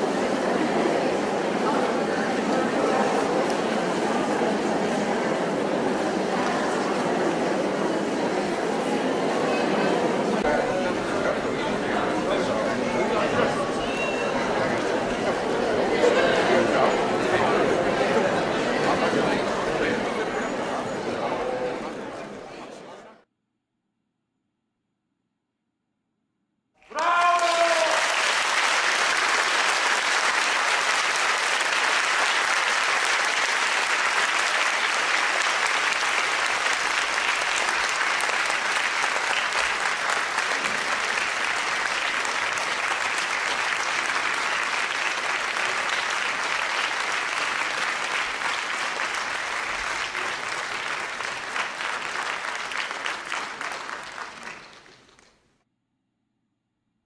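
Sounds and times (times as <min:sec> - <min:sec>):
crowd applauding: 0:00.0 - 0:22.6, 0:26.8 - 0:55.4.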